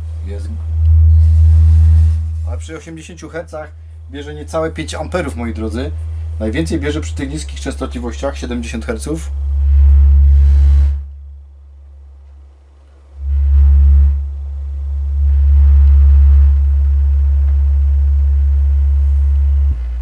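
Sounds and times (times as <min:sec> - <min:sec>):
faint buzz: 0:00.0 - 0:20.0
subwoofer low sine test tone: 0:00.0 - 0:20.0.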